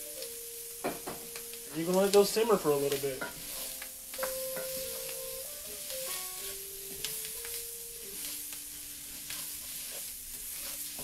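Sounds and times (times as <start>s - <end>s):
vegetables sizzling in a skillet: 0.0s - 11.0s.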